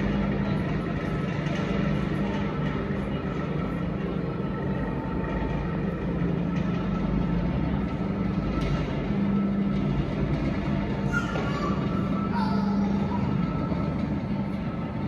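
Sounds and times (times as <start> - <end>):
turntable mechanical hum and rumble: 0.0 - 15.0.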